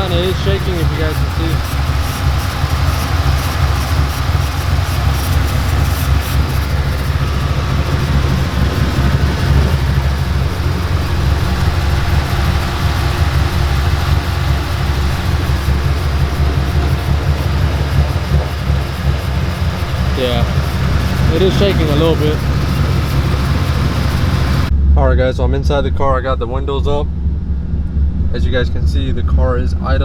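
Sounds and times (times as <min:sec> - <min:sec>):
car engine idling with choppy pulse: 0:00.0 - 0:24.8.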